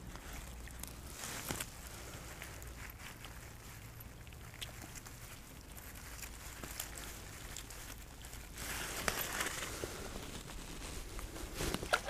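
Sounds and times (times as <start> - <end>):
rustling of grass and fabric: 0.0 - 12.0
small clicks and crackles: 0.0 - 12.0.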